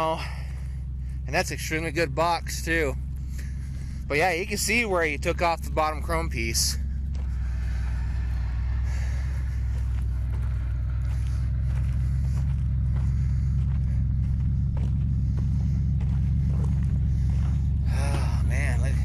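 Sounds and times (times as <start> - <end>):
faint footsteps on dirt: 0.0 - 19.0
truck engine idling: 0.0 - 19.0.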